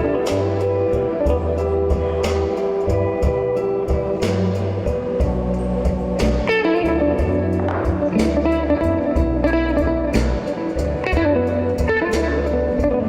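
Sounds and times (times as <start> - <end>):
bass line: 0.0 - 13.0
electric guitar lines: 0.0 - 13.0
steady beat: 0.0 - 13.0.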